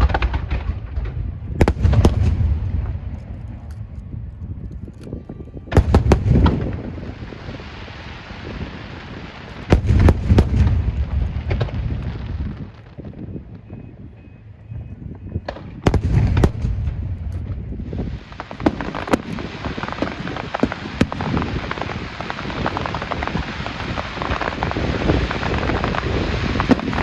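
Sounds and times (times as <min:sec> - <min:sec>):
fireworks bangs: 0:00.0 - 0:13.7, 0:15.3 - 0:27.0
fireworks crackling and popping: 0:00.0 - 0:14.1, 0:15.3 - 0:27.0.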